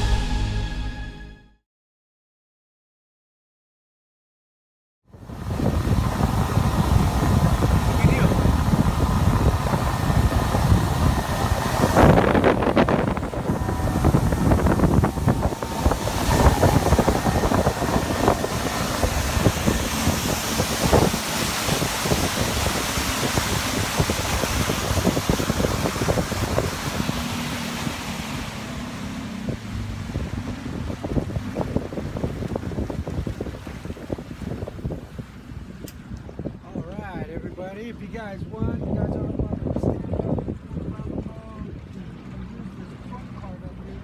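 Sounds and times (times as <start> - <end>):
water rushing along boat hull: 5.1 - 44.0
wind buffeting microphone: 5.1 - 44.0.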